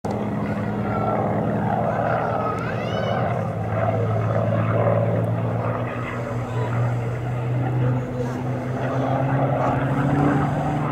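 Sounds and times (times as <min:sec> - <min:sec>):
propeller plane engine droning: 0:00.0 - 0:10.9.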